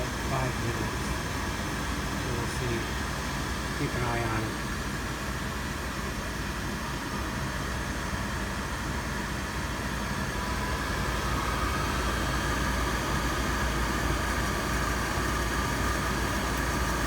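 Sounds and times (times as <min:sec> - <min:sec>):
gas furnace humming: 0:00.0 - 0:17.0.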